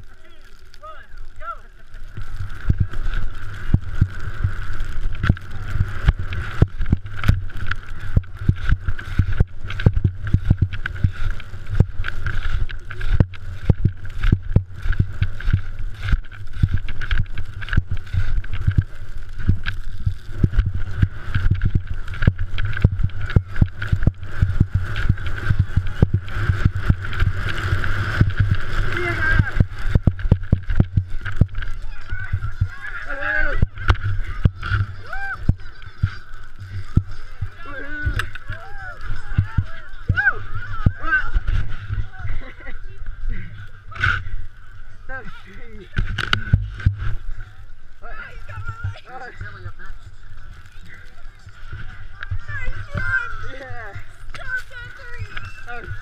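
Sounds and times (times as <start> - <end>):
skis chattering over moguls: 0.0 - 56.0
wind rumble on microphone: 1.2 - 45.3, 45.9 - 56.0.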